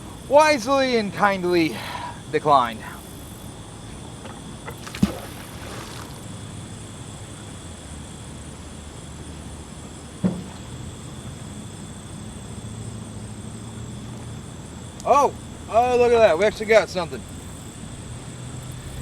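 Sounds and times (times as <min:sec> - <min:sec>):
night insects buzzing: 0:00.0 - 0:19.0.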